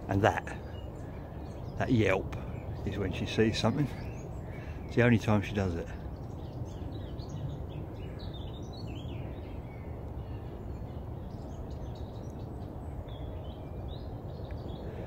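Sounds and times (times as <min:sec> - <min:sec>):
outdoor wind: 0:00.0 - 0:15.0.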